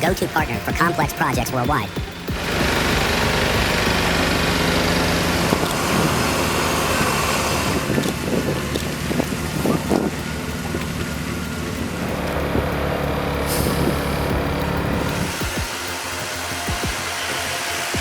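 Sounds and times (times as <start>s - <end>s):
truck diesel engine running: 0.0s - 18.0s
dense rushing noise: 1.3s - 18.0s.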